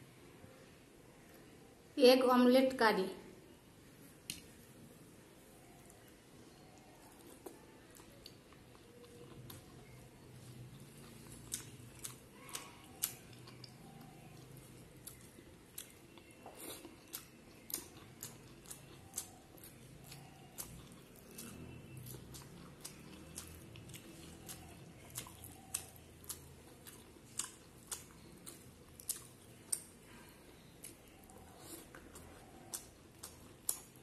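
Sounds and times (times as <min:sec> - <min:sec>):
person chewing food: 0:05.5 - 0:34.0.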